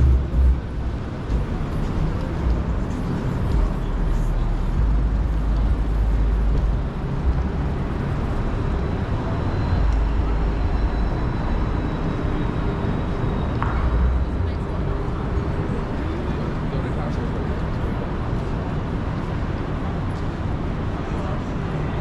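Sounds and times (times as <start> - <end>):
vehicles passing close by: 0.0 - 22.0.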